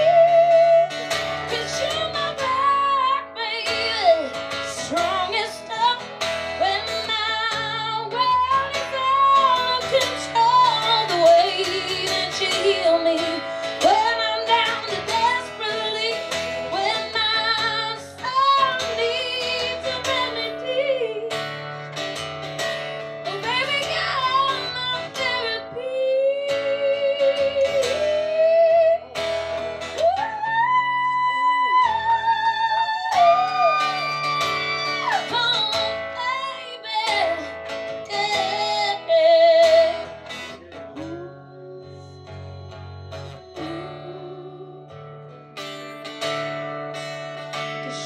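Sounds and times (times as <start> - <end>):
woman singing with vibrato: 0.0 - 21.6, 23.2 - 45.0, 47.7 - 48.0
strummed acoustic guitar: 0.0 - 48.0.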